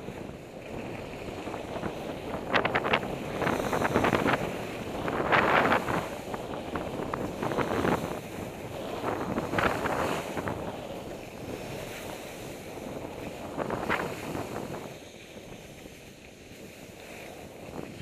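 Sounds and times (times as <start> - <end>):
skis scraping on snow: 0.0 - 18.0
wind rushing over microphone: 0.0 - 18.0.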